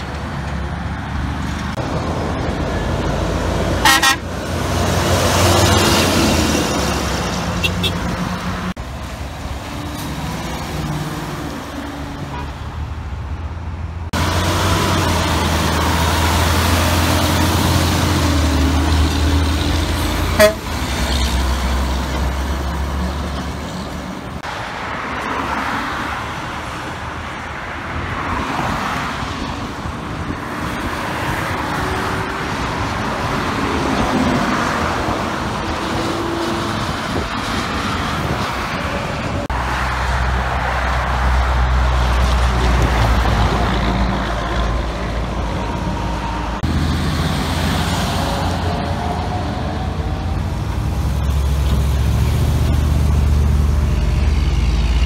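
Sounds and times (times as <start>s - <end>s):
diesel truck engine rumble: 0.0s - 24.6s, 30.1s - 55.0s
vehicles passing: 0.0s - 55.0s.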